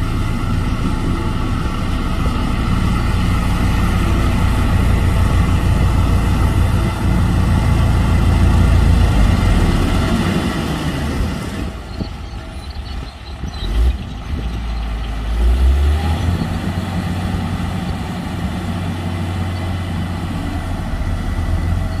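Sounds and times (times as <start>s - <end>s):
heavy diesel engine rumbling: 0.0s - 22.0s.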